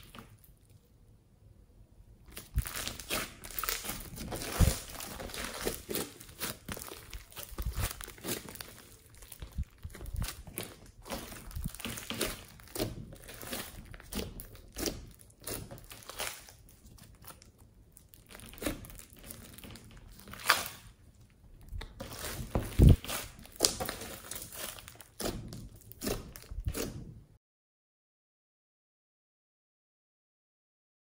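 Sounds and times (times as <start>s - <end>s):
slime crackling and squishing: 0.0s - 1.0s, 2.2s - 27.3s.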